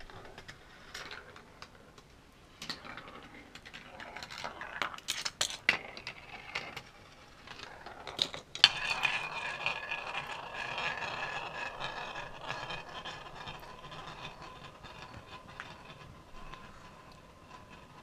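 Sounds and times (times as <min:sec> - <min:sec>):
marble spinning in plastic bowl: 0:00.0 - 0:18.0.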